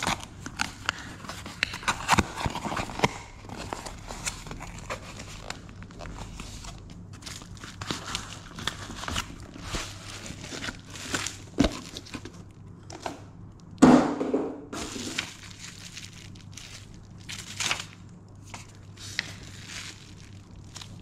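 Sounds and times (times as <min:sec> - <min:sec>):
bubble wrap crinkling: 0:00.0 - 0:13.1, 0:14.8 - 0:21.0.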